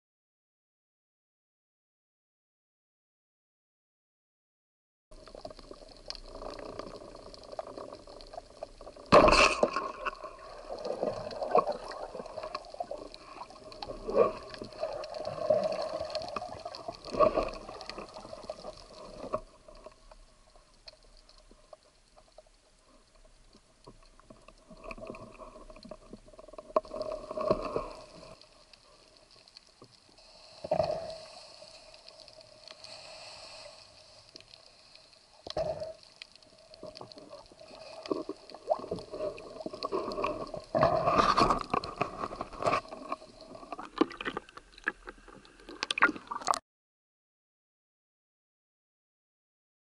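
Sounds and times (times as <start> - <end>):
muffled underwater water movement: 5.2 - 46.6.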